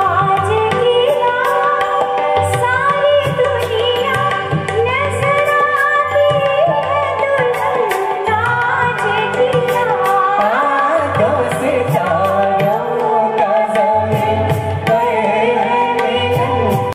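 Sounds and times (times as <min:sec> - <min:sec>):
hand drums: 0:00.0 - 0:16.9
person singing: 0:00.0 - 0:16.9.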